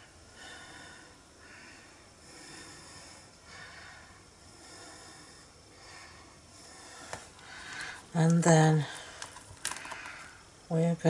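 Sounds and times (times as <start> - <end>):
faint breathing: 0.0 - 10.7
low hiss: 0.0 - 11.0.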